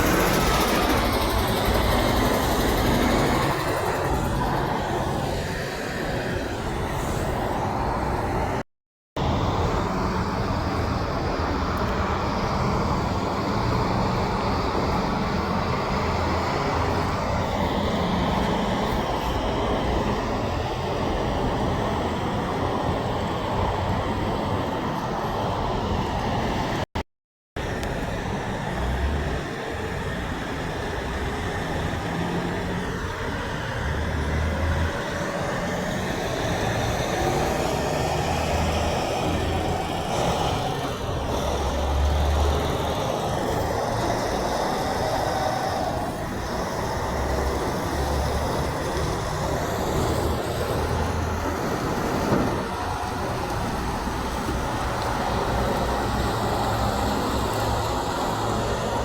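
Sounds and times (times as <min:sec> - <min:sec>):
road traffic passing: 0:00.0 - 0:08.6, 0:09.2 - 0:26.9, 0:27.6 - 0:59.0.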